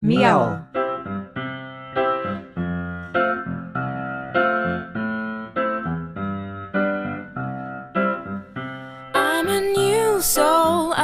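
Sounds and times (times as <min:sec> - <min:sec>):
piano playing chords: 0:00.0 - 0:11.0.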